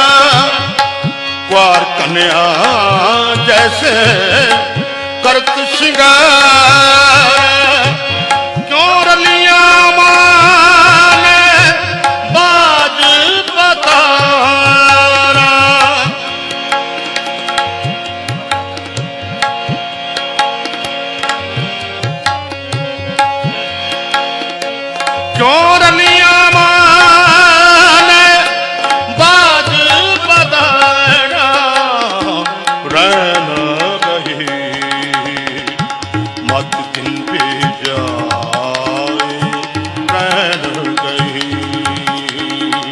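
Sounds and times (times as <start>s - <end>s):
harmonium chords: 0.0s - 42.9s
tabla playing: 0.0s - 42.9s.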